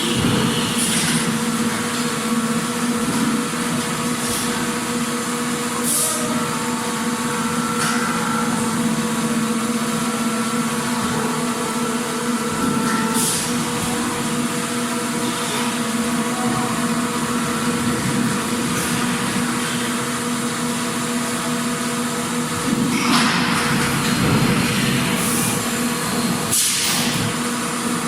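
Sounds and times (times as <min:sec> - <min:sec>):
factory machinery humming: 0:00.0 - 0:28.0.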